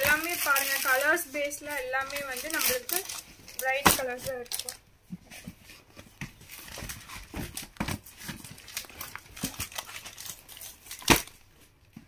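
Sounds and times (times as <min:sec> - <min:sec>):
fabric rustling and crinkling: 0:00.0 - 0:12.0.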